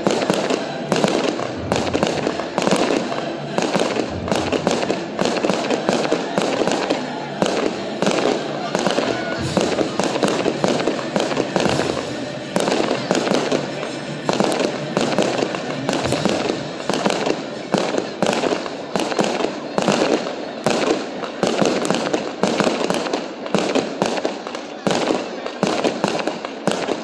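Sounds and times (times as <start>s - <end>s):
fireworks bursting: 0.0s - 27.0s
fireworks crackling: 0.0s - 27.0s.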